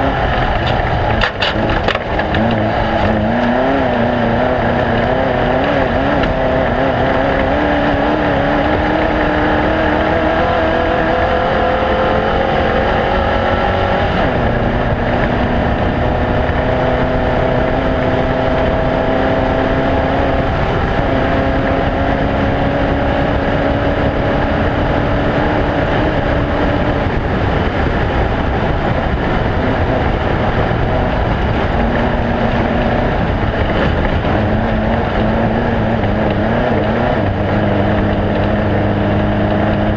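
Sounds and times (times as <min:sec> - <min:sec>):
race vehicle engine running hard: 0:00.0 - 0:39.9
rough rumble: 0:00.0 - 0:39.9
wind: 0:00.0 - 0:39.9.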